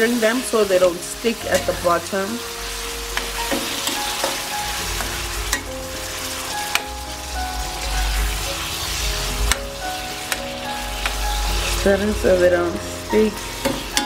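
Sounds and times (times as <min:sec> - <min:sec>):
liver sizzling in hot oil: 0:00.0 - 0:14.0.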